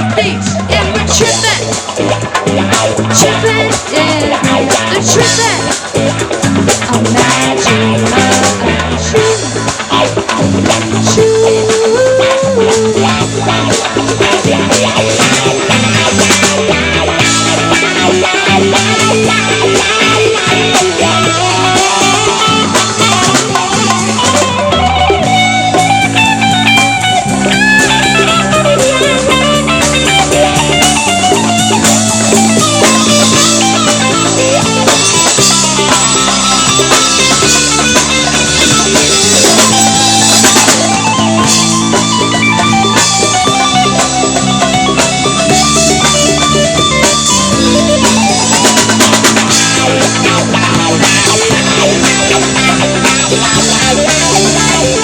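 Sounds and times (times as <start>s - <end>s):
lead guitar bending notes: 0.0s - 55.0s
rock band playing: 0.0s - 55.0s.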